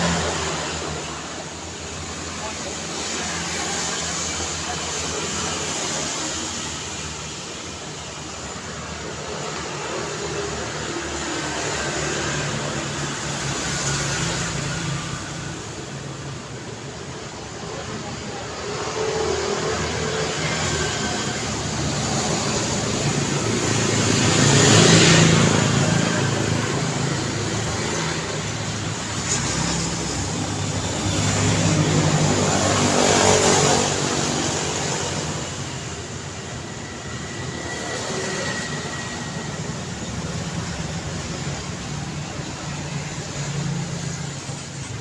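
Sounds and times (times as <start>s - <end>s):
road traffic noise: 0.0s - 45.0s
vehicles passing close by: 0.0s - 45.0s.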